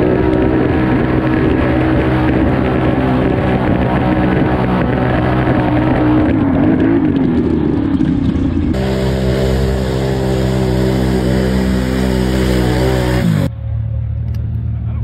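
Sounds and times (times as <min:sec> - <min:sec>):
atv engine revving: 0:00.0 - 0:13.5.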